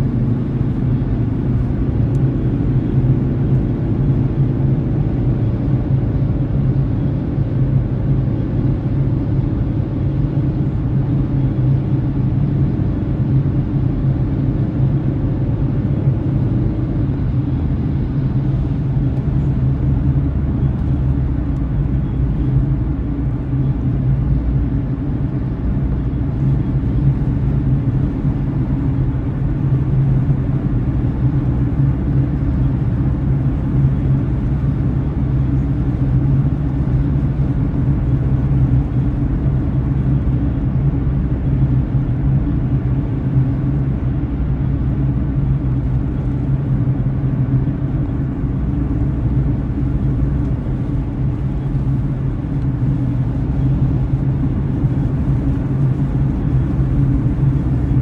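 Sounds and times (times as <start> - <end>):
car driving rumble: 0.0 - 8.0, 8.6 - 58.0.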